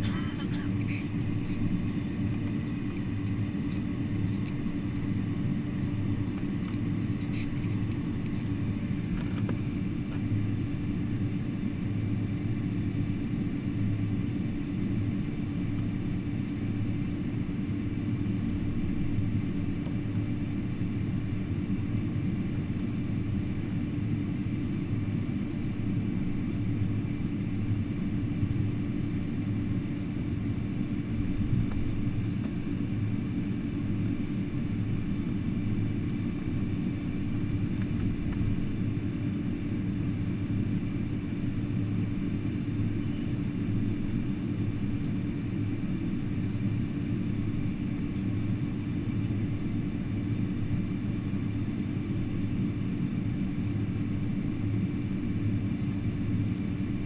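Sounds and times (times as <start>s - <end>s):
aircraft cabin rumble: 0.0s - 57.0s
constant hum: 0.0s - 57.0s.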